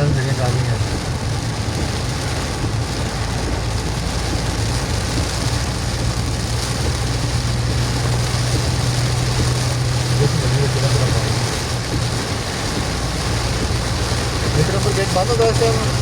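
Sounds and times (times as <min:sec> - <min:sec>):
engine and road drone: 0:00.0 - 0:16.0
rain and wet tyres hiss: 0:00.0 - 0:16.0.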